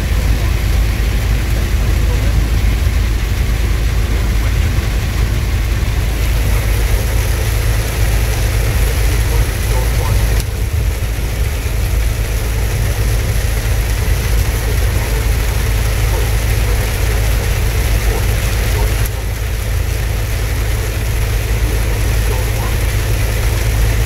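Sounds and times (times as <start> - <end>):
engine and tyres on wet road: 0.0 - 24.0
rain hitting windshield and roof: 0.0 - 24.0.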